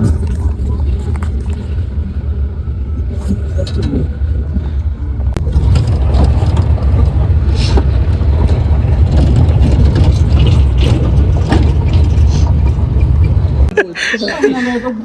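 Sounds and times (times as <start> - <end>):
low rumble: 0.0 - 13.7.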